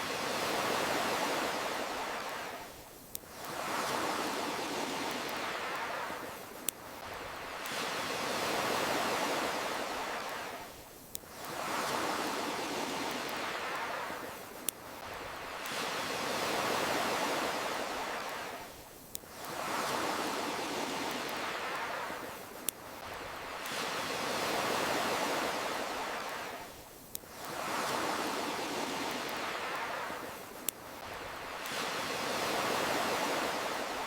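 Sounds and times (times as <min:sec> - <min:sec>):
ocean waves washing in: 0:00.0 - 0:34.0.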